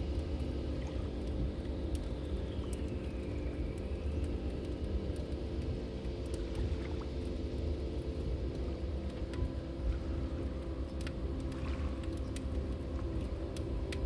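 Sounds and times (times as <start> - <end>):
low rumble of fire: 0.0 - 14.0.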